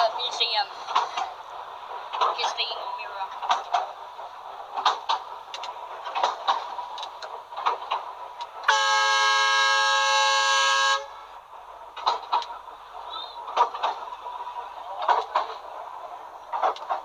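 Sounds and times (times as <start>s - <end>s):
rail clacks: 0.0s - 17.0s
tram running on rails: 0.0s - 17.0s.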